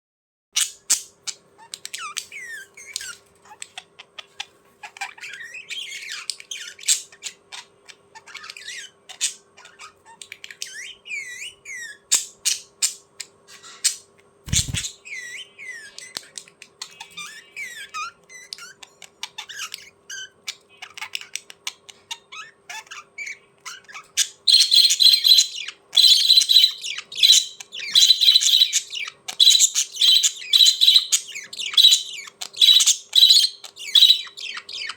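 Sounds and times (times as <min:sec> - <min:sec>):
small birds chirping and squawking: 0:00.6 - 0:34.9
faint steady hum: 0:01.1 - 0:34.9.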